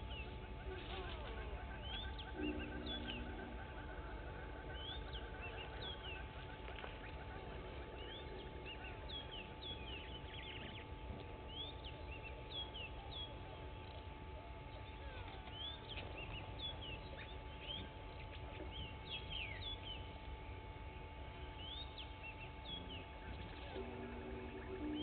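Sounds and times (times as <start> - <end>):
birds chirping and whistling: 0.0 - 14.0, 14.6 - 20.3, 21.3 - 25.0
low background rumble: 0.0 - 25.0.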